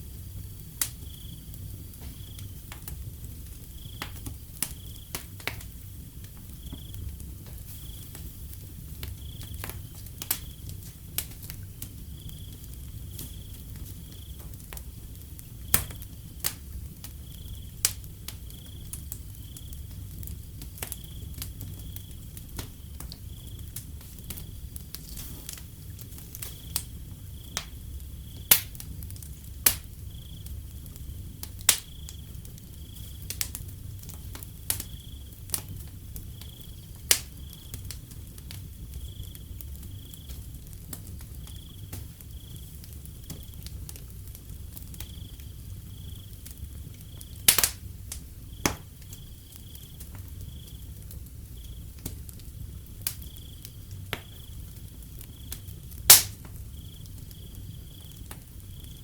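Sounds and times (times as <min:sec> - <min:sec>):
cricket chirping: 0:00.0 - 0:59.0
wood fire crackling and popping: 0:00.0 - 0:59.0.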